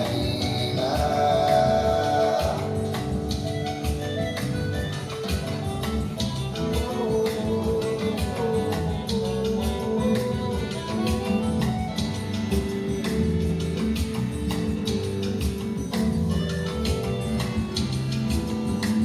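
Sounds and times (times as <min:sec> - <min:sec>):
steady percussion beat: 0:00.0 - 0:19.0.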